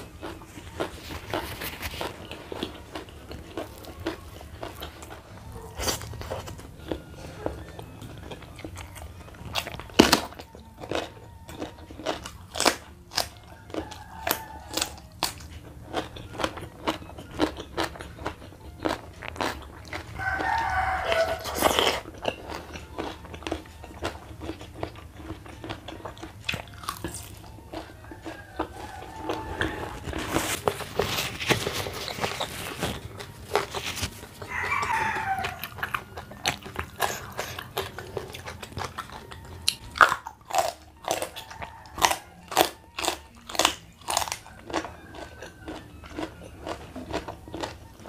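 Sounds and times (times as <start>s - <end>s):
crunching bites and chewing: 0.0s - 48.0s.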